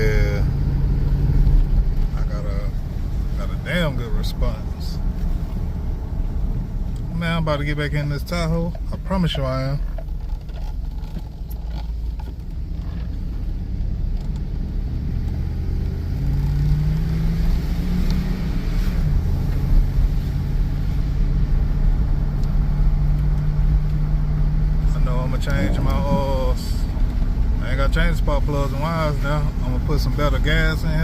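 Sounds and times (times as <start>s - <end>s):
car engine drone inside cabin: 0.0s - 31.0s.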